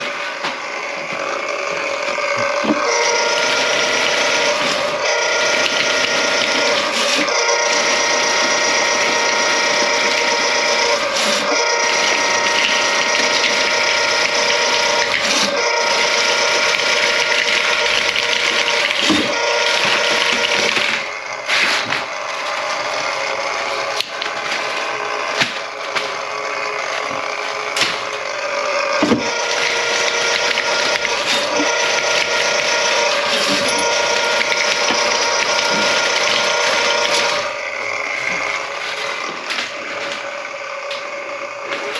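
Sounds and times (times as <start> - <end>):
water rushing and gurgling in drain: 1.0 - 40.4.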